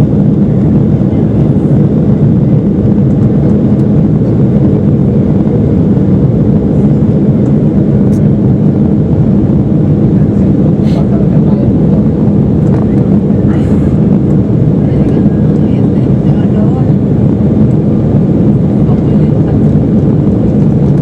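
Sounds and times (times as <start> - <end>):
jet airliner cabin noise: 0.0 - 21.0.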